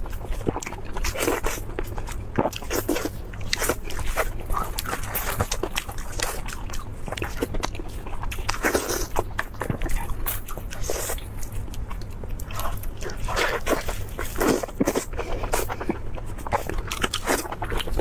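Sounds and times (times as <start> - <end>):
crunchy chewing of crisp food: 0.0 - 18.0.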